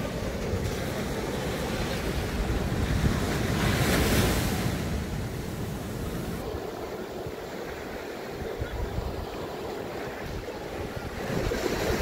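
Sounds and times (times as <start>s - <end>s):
ocean surf washing on sand: 0.0s - 12.0s
wind buffeting microphone: 0.0s - 12.0s.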